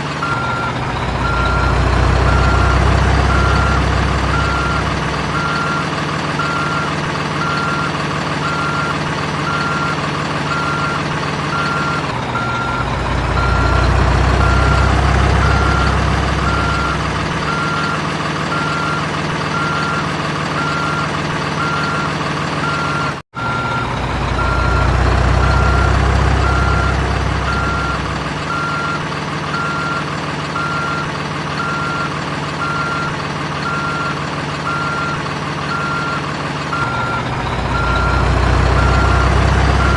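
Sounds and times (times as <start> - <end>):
simulated diesel engine sound: 0.0 - 39.9
reversing beeps: 0.2 - 21.0, 21.6 - 39.9.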